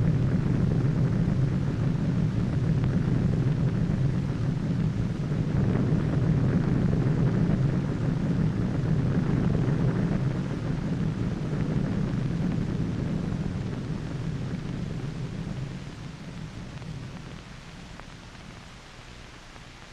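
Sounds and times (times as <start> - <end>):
deep explosion rumble: 0.0 - 18.6
film soundtrack hiss: 0.0 - 19.9.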